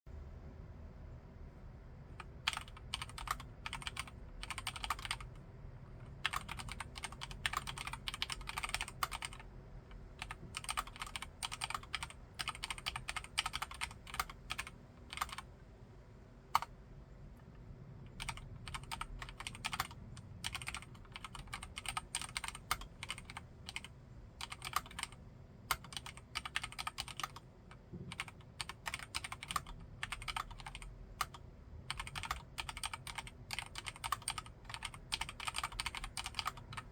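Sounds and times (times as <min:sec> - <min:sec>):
typing on mechanical keyboard: 0:02.2 - 0:05.4, 0:06.0 - 0:15.5, 0:18.1 - 0:36.9.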